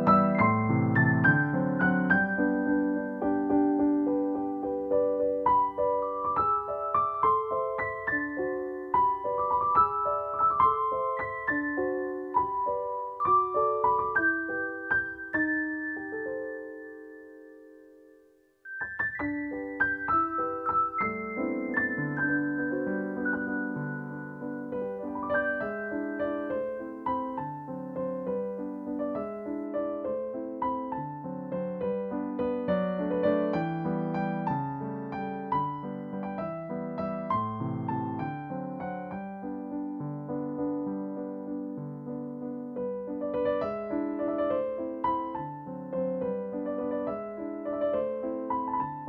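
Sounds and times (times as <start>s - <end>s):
soft piano music: 0.0s - 49.0s.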